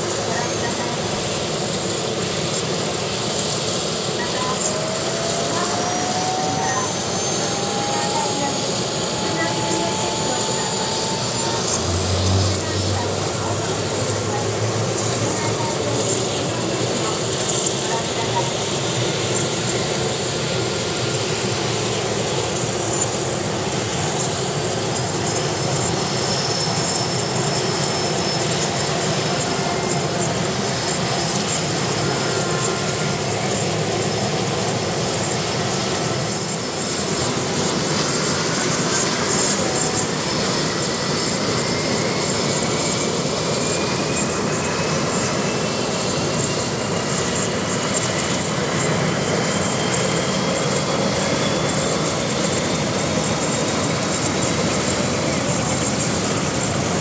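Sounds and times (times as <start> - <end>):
helicopter turbine whine and rumble: 0.0 - 57.0
rising engine whine: 2.2 - 57.0.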